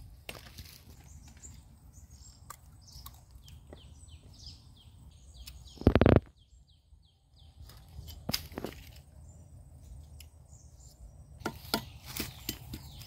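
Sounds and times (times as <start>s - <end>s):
bird chirping: 0.8s - 13.0s.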